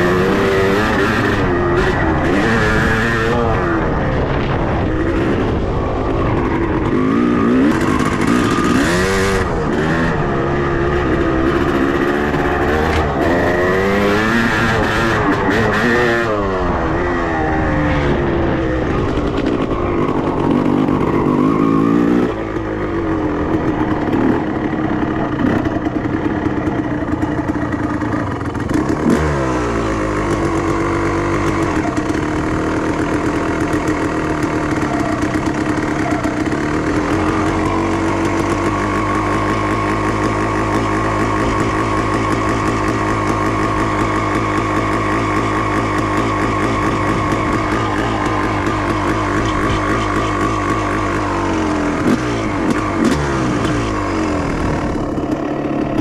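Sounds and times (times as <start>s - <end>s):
two-stroke motorbike engine revving: 0.0s - 56.0s.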